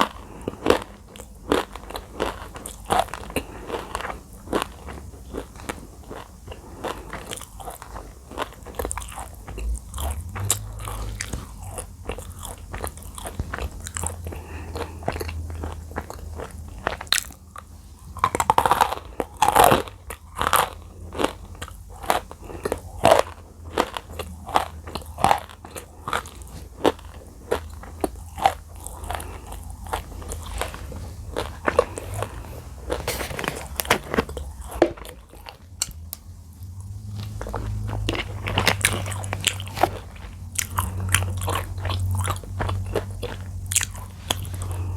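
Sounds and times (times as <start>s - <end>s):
chewing crunchy dry clay: 0.0s - 44.9s.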